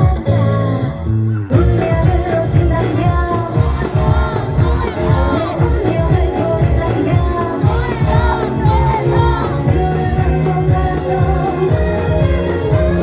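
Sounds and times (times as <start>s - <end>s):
pop dance track over speakers: 0.0s - 13.0s.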